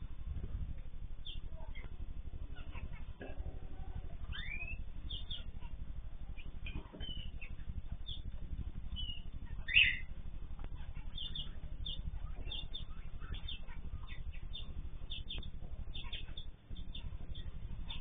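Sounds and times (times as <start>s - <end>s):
cage birds chirping: 0.0s - 18.0s
steady low hum: 0.0s - 18.0s.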